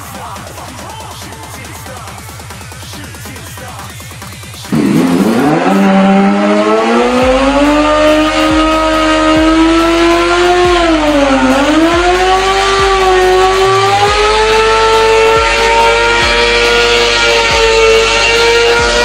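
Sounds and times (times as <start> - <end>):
motorcycle engine revving high: 2.3 - 19.0.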